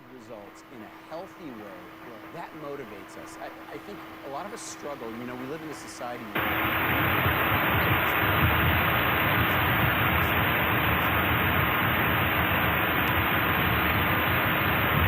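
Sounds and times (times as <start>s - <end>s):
receiver static hiss: 0.0s - 15.0s.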